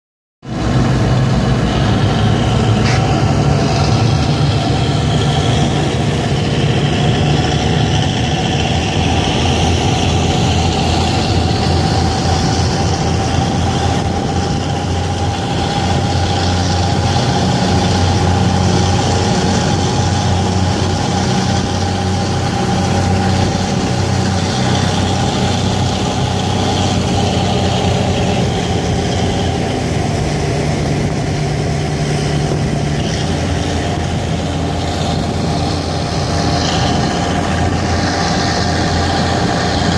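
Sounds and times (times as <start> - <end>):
diesel boat engine drone: 0.4 - 39.9
water rushing along boat: 0.4 - 39.9.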